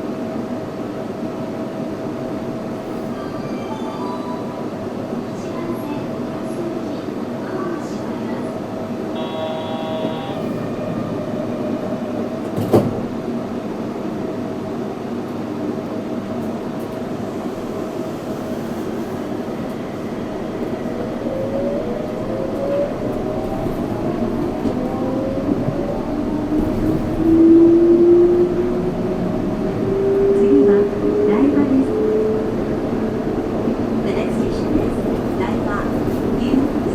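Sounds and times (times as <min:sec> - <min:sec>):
train rolling noise: 0:00.2 - 0:36.9.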